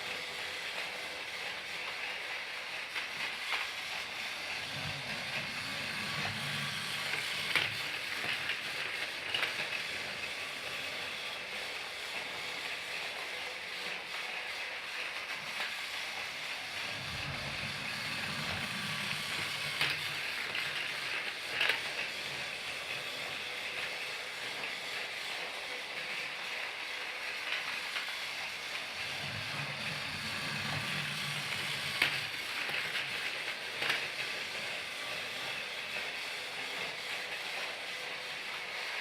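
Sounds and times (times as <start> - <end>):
toy train motor whirring: 0.0 - 39.0.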